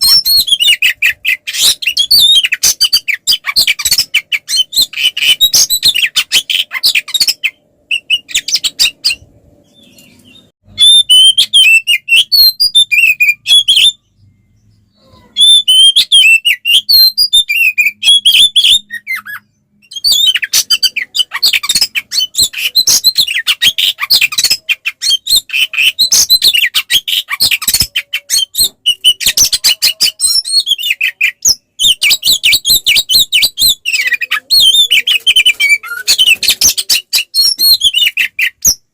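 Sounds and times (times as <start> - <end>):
bird singing chirped notes: 0.0 - 38.7.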